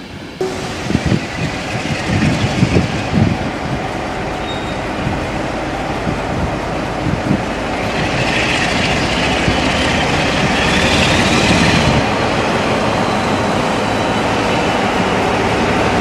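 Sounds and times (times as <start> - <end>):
diesel locomotive engine: 0.0 - 16.0
train wheels on track: 0.0 - 16.0.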